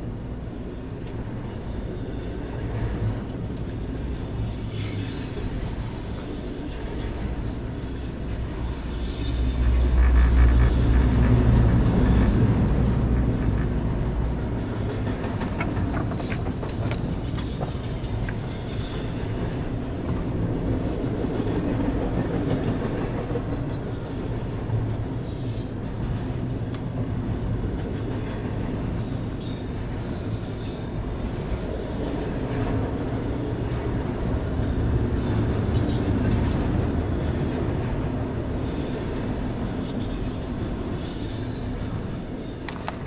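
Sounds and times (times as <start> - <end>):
steel wheels rumbling on rail: 0.0 - 43.0.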